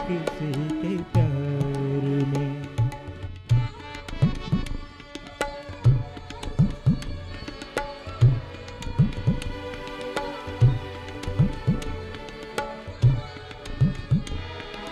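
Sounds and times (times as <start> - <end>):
bowed sarangi melody: 0.0 - 14.9
tabla playing: 0.0 - 14.9.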